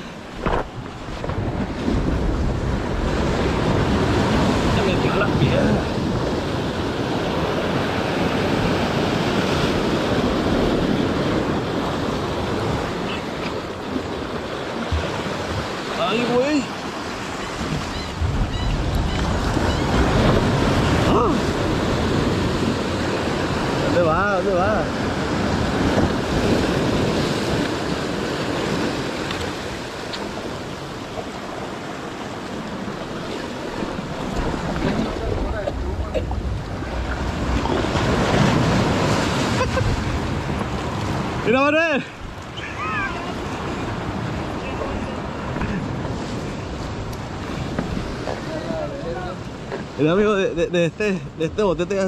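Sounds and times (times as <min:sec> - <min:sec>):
wind rumbling on microphone: 0:00.0 - 0:41.5, 0:42.1 - 0:50.6
surf washing among rocks: 0:00.0 - 0:52.0.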